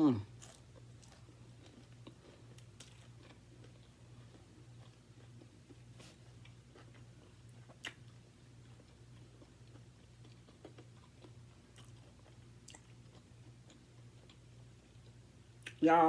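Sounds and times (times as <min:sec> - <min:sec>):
person chewing: 0:00.3 - 0:15.8.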